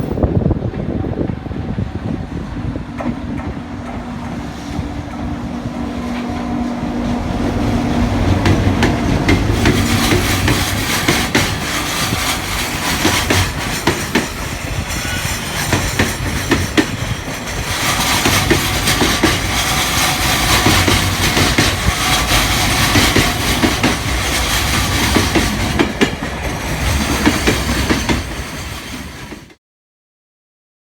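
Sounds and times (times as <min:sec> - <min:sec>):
train wheels clicking over rail joints: 0:00.4 - 0:29.6.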